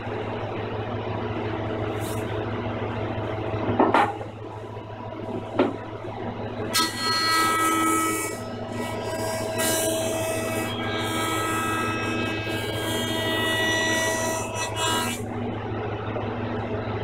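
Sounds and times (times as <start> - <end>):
jointer motor humming: 2.6 - 16.7.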